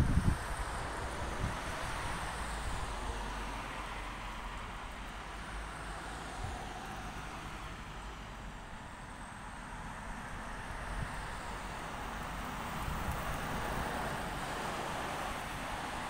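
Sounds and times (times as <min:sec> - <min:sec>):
cars passing: 0:00.0 - 0:16.0.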